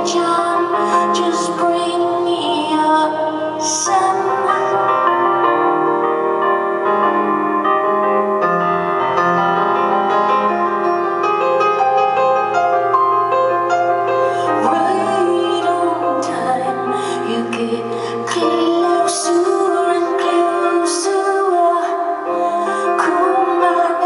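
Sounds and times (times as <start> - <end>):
live piano and keyboard music: 0.0 - 24.0.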